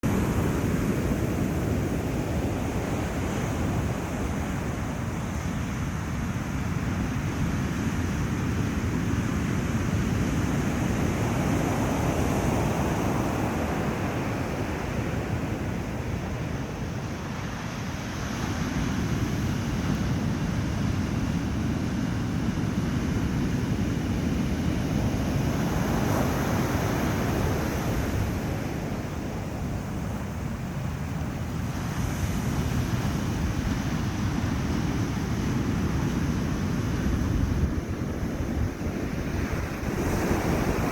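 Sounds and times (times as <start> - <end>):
surf breaking on beach: 0.0 - 40.9
wind buffeting microphone: 0.0 - 40.9.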